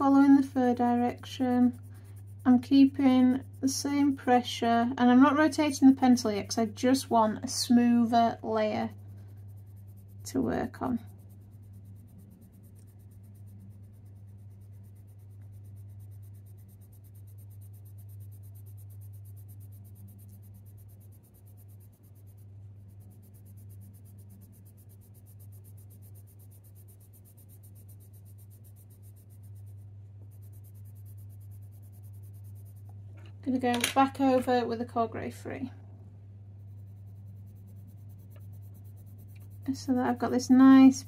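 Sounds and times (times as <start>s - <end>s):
pencil scratching on paper: 0.0s - 35.7s, 36.4s - 41.0s
low steady hum: 0.0s - 41.0s.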